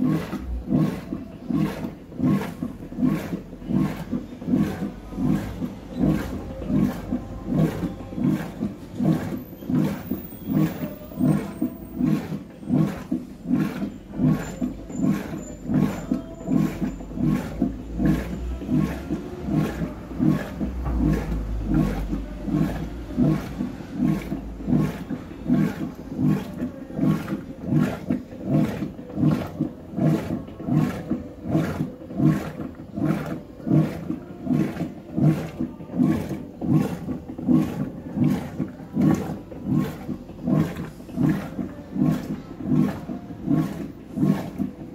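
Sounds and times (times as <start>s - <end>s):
washing machine swishing: 0.0s - 44.9s.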